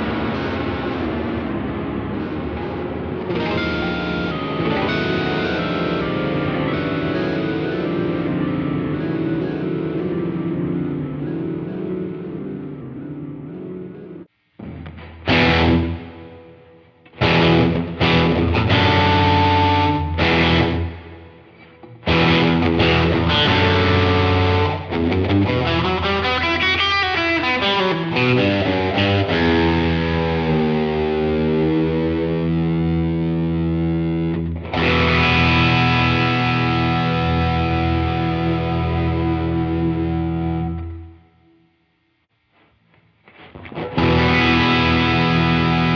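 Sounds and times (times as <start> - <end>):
overdriven electric guitar chords: 0.0 - 45.9.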